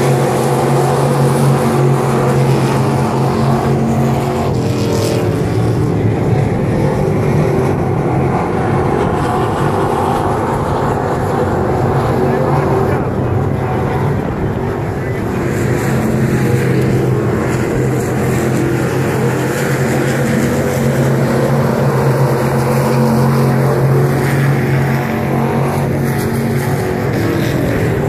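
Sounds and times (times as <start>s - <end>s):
race car engines droning: 0.0s - 28.0s.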